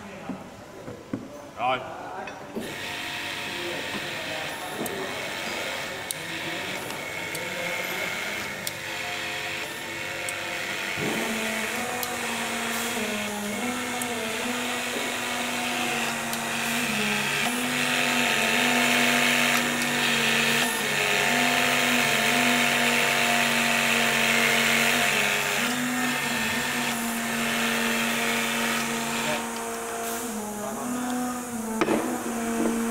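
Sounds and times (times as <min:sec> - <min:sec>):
hydraulic pump motor hum: 0:02.6 - 0:32.9.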